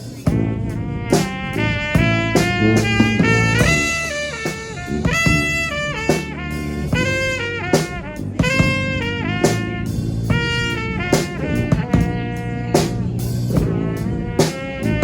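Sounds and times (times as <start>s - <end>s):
brass horns playing chords: 0.0s - 15.0s
drum and cymbal strikes: 0.0s - 15.0s.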